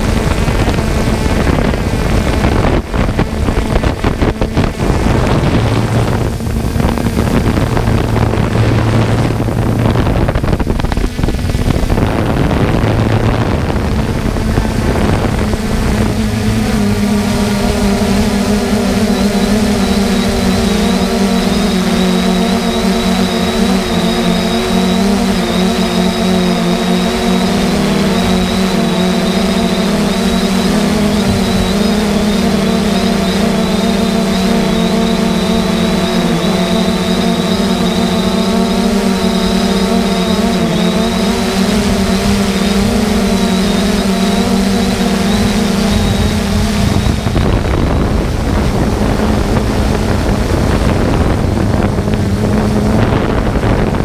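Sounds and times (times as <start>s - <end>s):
drone propellers humming: 0.0s - 54.0s
wind rushing over microphone: 0.0s - 54.0s.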